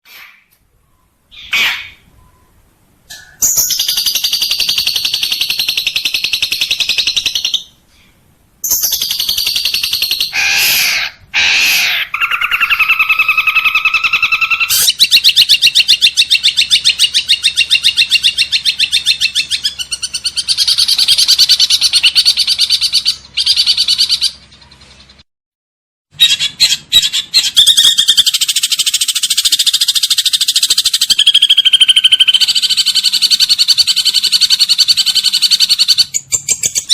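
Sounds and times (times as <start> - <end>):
songbirds chattering and trilling: 0.2 - 25.2, 26.2 - 36.9.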